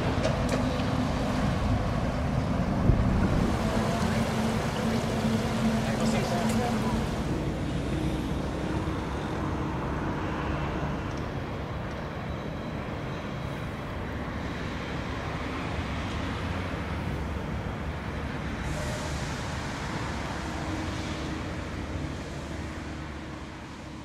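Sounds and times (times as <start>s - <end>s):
low rumbling outdoor background noise: 0.0s - 24.0s.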